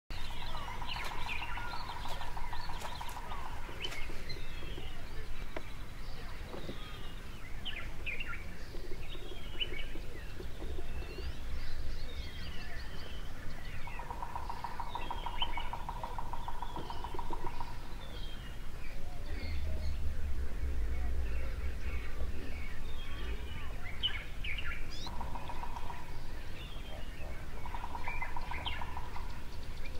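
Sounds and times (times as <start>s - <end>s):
birds chirping and whistling: 0.1s - 29.9s.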